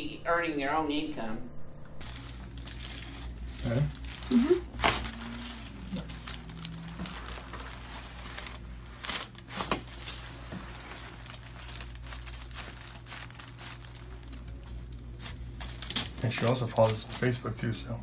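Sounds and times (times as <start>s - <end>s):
steady low hum: 0.0s - 18.0s
paper crinkling and rustling: 2.0s - 17.5s.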